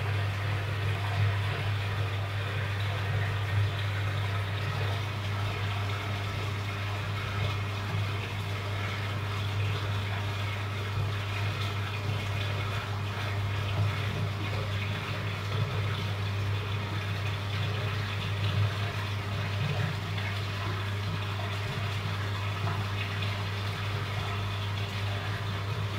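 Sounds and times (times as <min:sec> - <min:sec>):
aquarium pump humming: 0:00.0 - 0:25.9
water bubbling and trickling: 0:00.0 - 0:25.9.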